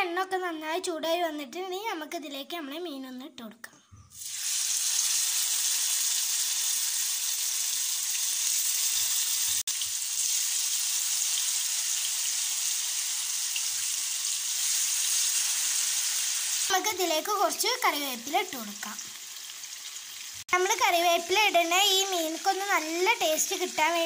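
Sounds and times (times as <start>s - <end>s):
fish sizzling in hot oil: 4.2s - 24.0s.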